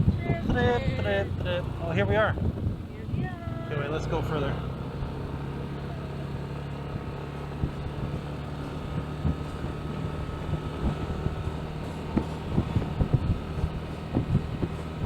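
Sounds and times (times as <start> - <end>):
motorcycle engine running: 0.0 - 15.0
wind on microphone: 0.0 - 15.0.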